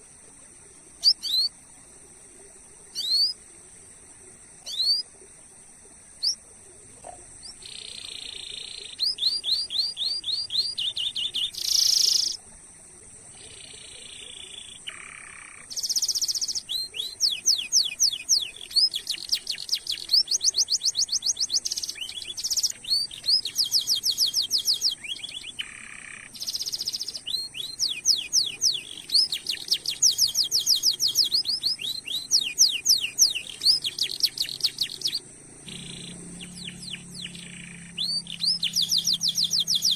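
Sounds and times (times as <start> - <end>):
canary singing: 3.0 - 3.4, 4.6 - 5.0, 7.4 - 12.4, 13.3 - 39.9.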